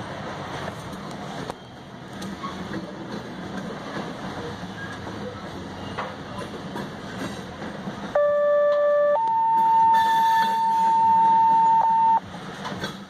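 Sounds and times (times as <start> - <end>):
freight train cars rumbling: 0.0 - 13.0.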